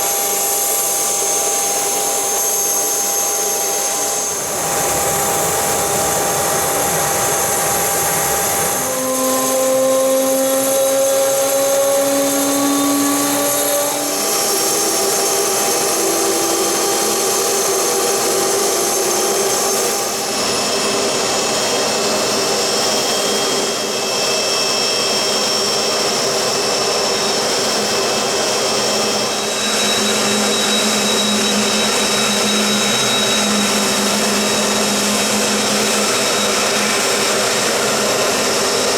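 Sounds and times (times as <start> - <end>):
jet turbofan engines whining: 0.0 - 38.9.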